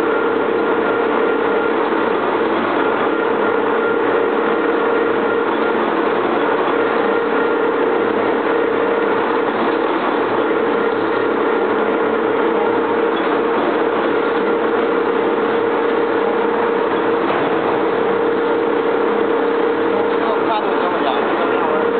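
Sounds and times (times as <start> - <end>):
lathe running under cut: 0.0 - 21.9.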